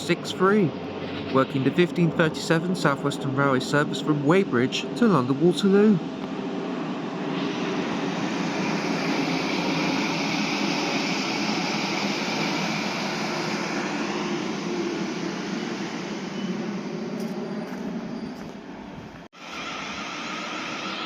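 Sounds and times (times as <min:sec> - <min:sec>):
high whine: 0:00.0 - 0:21.0
train rumble and hum: 0:00.0 - 0:21.0.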